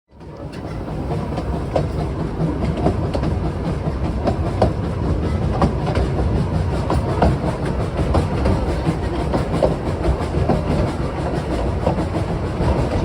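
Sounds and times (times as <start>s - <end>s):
train carriage rumbling on track: 0.1s - 13.0s.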